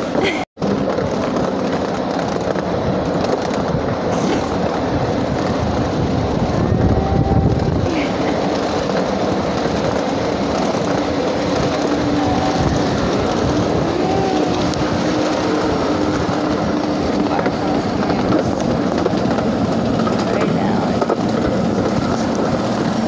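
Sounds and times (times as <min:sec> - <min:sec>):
miniature train wheels rumbling on rails: 0:00.0 - 0:23.0.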